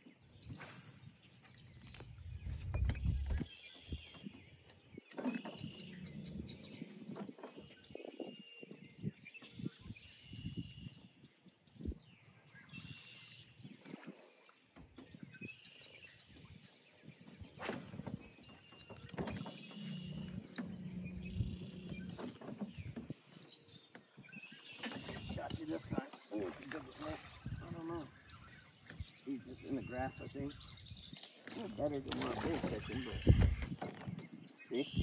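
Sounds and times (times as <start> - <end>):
songbird singing: 0.0 - 35.0.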